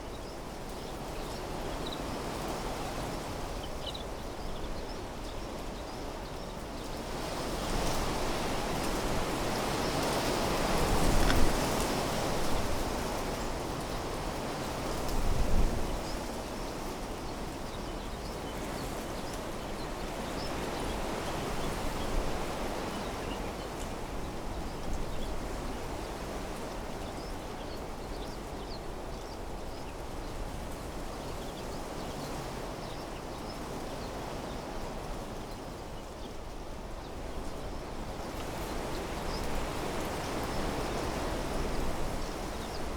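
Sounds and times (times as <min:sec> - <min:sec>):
wind rustling through trees: 0:00.0 - 0:42.9.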